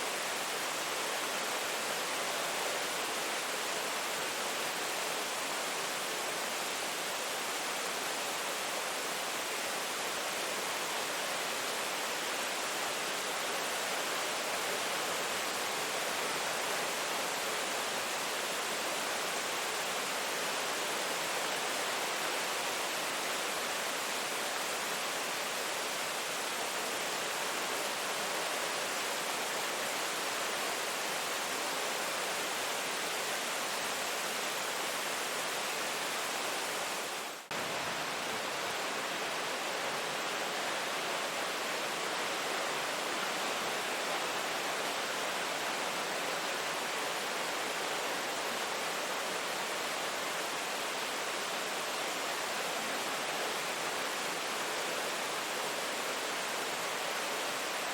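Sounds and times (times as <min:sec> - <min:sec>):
heavy rain: 0:00.0 - 0:57.9.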